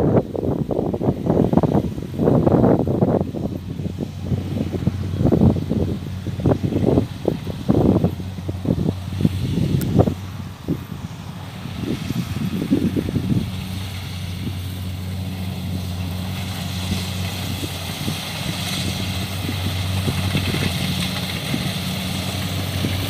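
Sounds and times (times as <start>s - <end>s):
combine harvester engine hum: 0.0s - 23.0s.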